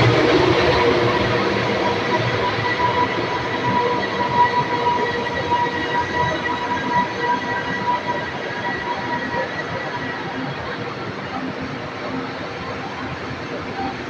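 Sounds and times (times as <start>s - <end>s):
train rumbling on rails: 0.0s - 11.8s.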